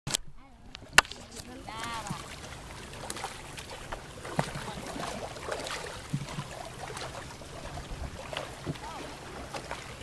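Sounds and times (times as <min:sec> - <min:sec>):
water splashing and lapping: 0:00.1 - 0:10.0.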